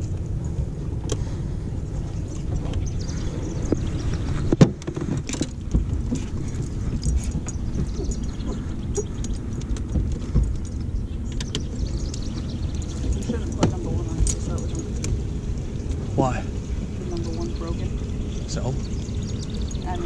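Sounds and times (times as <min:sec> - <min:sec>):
handling clicks and rattles: 0:00.0 - 0:16.3
low rumble: 0:00.0 - 0:20.0.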